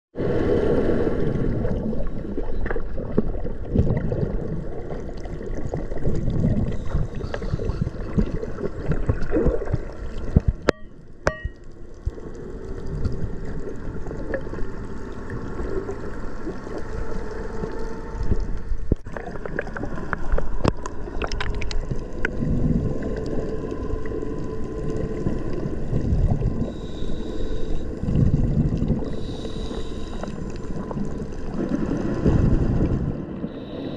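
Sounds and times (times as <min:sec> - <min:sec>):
faint steady hum: 0:00.2 - 0:33.9
muffled underwater water rush: 0:00.2 - 0:33.9.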